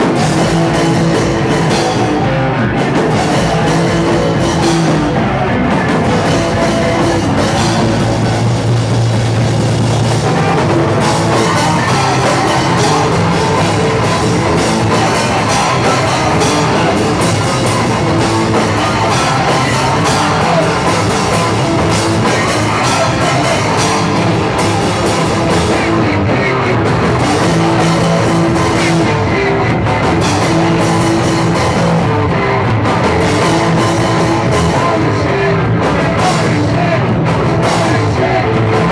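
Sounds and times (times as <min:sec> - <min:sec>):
electric guitars: 0:00.0 - 0:38.9
fast driving drum kit: 0:00.0 - 0:38.9
punk band playing live: 0:00.0 - 0:38.9.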